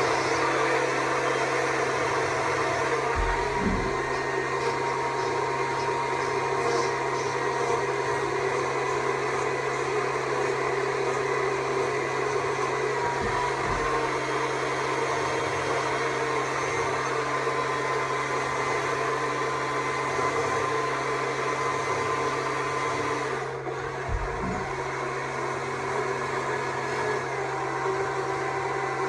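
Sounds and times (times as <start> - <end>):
electric chainsaw running: 0.0 - 29.0.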